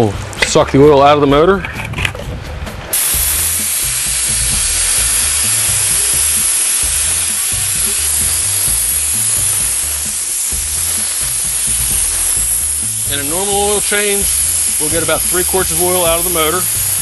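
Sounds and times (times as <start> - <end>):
oil extractor hissing: 2.9 - 17.0.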